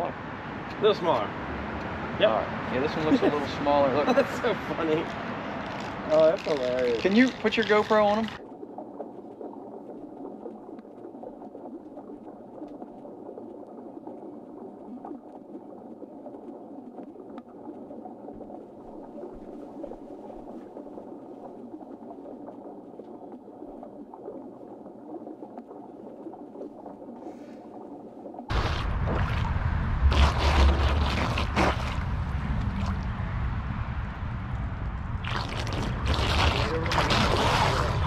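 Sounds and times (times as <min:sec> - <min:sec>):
faint steady hum: 0:00.0 - 0:38.0
underwater thrusters churning: 0:01.9 - 0:33.5, 0:35.1 - 0:38.0.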